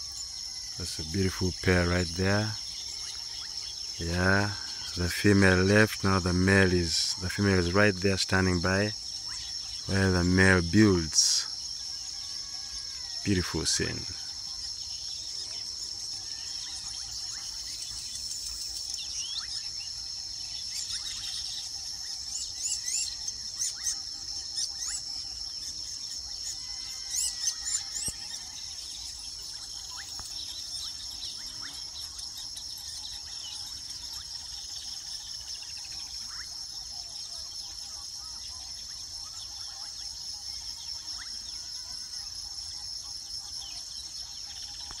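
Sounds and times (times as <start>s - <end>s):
birds chattering: 0.0s - 45.0s
high-pitched insect trilling: 0.0s - 45.0s.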